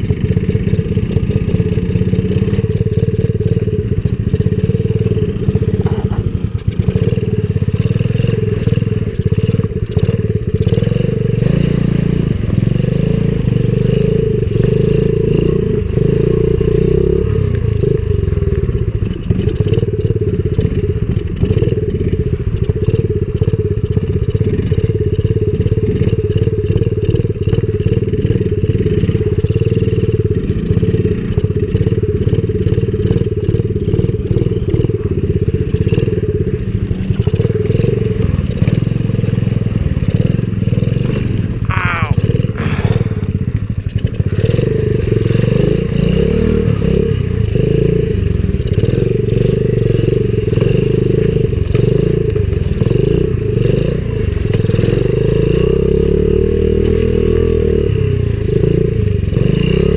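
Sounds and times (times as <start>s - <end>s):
bike knocking and rattling: 0.0s - 57.4s
small motorbike engine running: 0.0s - 59.9s.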